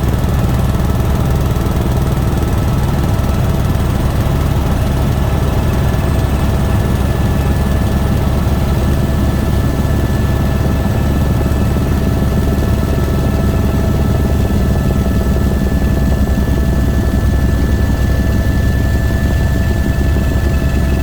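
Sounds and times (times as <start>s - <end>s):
helicopter engine whine: 0.0s - 21.0s
helicopter rotor pulse: 0.0s - 21.0s.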